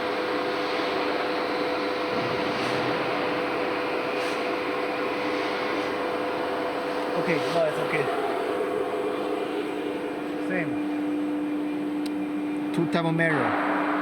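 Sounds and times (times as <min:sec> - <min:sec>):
machinery humming and hissing: 0:00.0 - 0:14.0.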